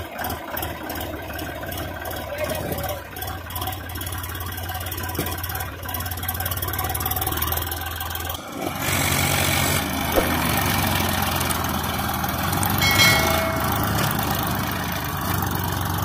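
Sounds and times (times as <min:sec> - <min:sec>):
diesel tractor engines idling: 0:00.0 - 0:16.0.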